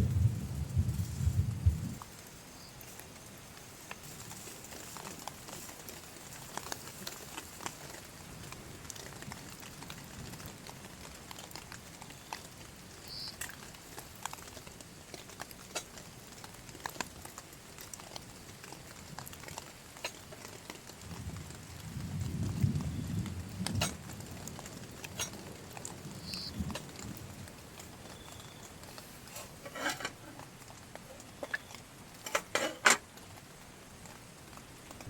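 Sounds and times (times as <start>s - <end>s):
raindrops tapping on a surface: 0.0s - 35.0s
steady hiss of rain: 0.0s - 35.0s.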